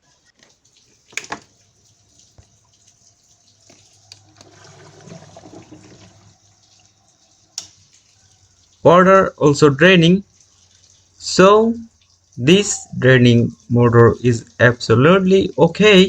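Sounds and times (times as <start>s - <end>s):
water rushing through drain: 0.0s - 16.0s.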